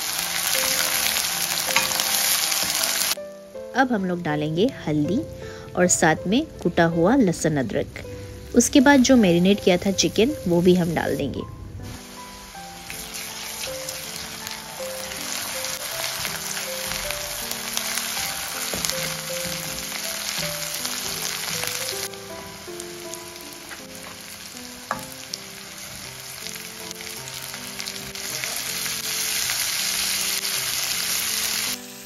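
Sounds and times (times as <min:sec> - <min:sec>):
onions sizzling in hot oil: 0:00.0 - 0:03.2, 0:03.9 - 0:32.0.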